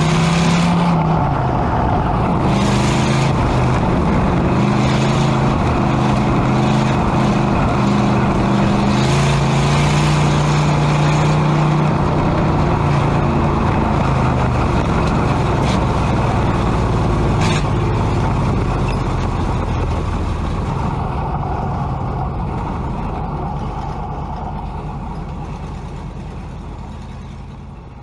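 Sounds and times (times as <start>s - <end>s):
race car engine at low revs: 0.0s - 28.0s.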